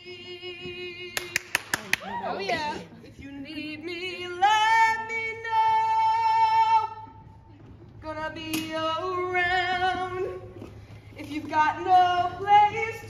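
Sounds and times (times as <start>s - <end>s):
woman singing unaccompanied: 0.0s - 1.5s, 2.3s - 7.3s, 8.0s - 10.6s, 11.2s - 13.0s.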